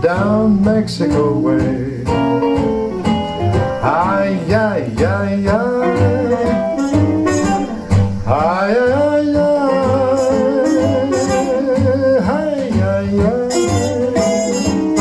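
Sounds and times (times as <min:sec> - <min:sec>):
country music over loudspeaker: 0:00.0 - 0:15.0
plucked guitar: 0:00.0 - 0:15.0.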